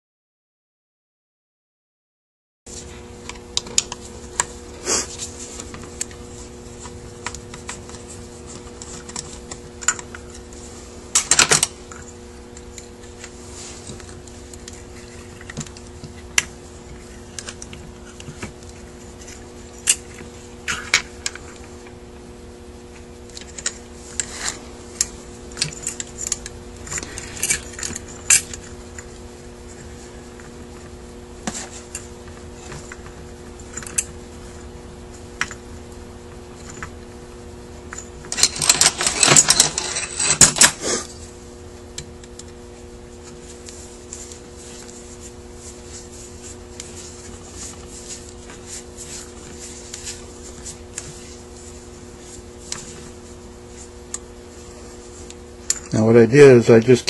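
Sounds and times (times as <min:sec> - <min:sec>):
steady low hum: 0:02.7 - 0:57.0.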